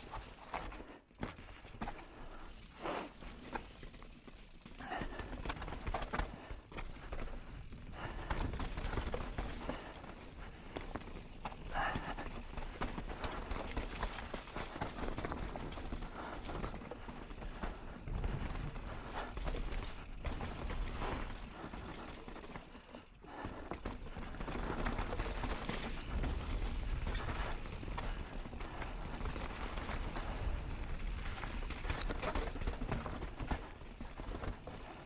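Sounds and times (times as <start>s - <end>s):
bike tyres rumbling over rocks: 0.0s - 35.0s.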